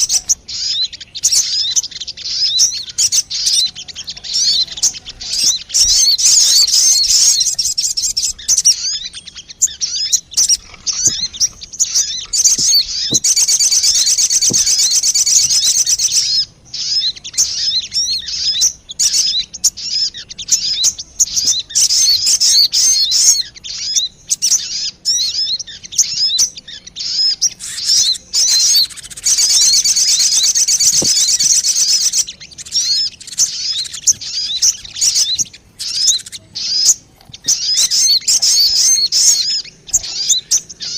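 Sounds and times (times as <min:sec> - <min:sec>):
bird lure chirping: 0:00.0 - 0:40.9
continuous bird trilling: 0:00.0 - 0:40.9.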